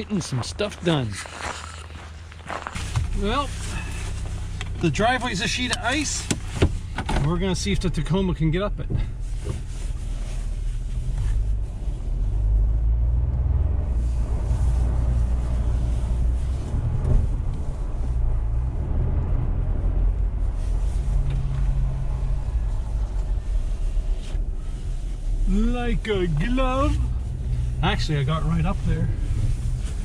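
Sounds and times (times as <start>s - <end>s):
pickup truck engine rumble: 0.0s - 30.0s.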